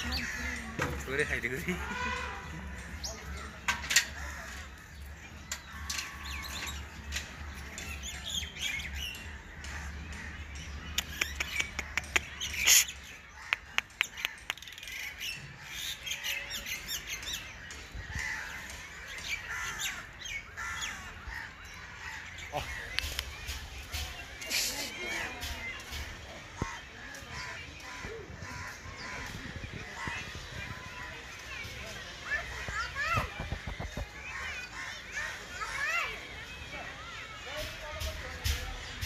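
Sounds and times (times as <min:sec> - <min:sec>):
birds chirping and squawking: 0:00.0 - 0:39.0.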